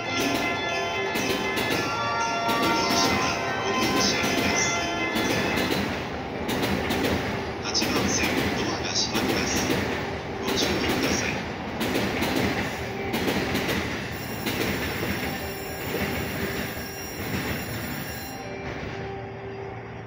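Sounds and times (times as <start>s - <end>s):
clacks over rail joints: 0.0s - 18.0s
train wheels rumbling on track: 0.0s - 20.0s.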